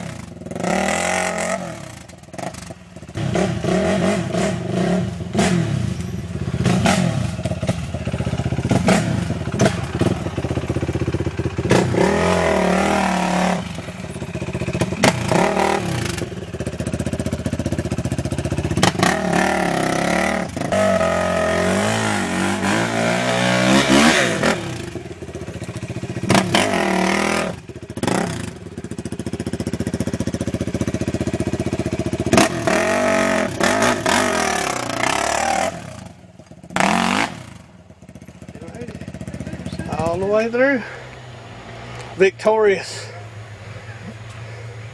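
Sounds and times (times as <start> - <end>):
knocks and clatter over ruts: 0.0 - 41.3
quad bike engine revving: 0.0 - 44.9.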